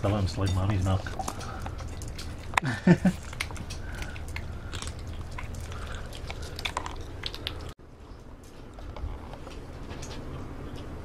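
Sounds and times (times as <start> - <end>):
kittens chewing food: 0.0 - 11.0.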